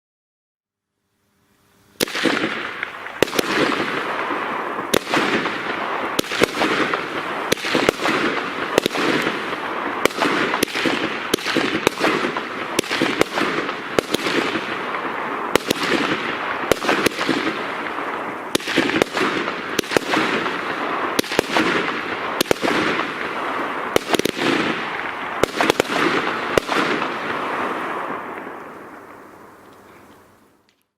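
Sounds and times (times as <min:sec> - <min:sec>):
fireworks hiss and crackle: 0:01.5 - 0:30.9
fireworks bangs: 0:02.0 - 0:30.7.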